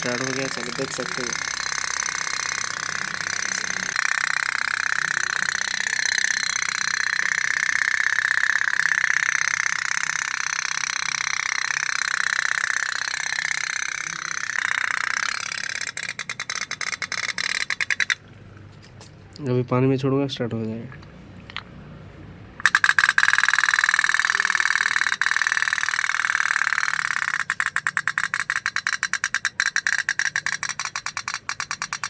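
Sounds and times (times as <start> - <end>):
toy steam boat engine putt-putting: 0.0 - 18.2, 22.6 - 32.0.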